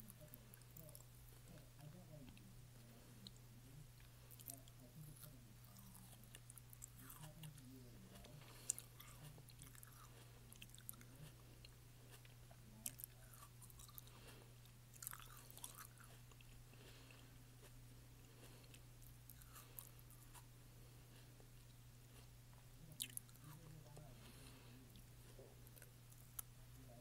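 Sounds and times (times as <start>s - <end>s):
chewing crunchy food: 0.0s - 26.9s
steady low hum: 0.0s - 27.0s.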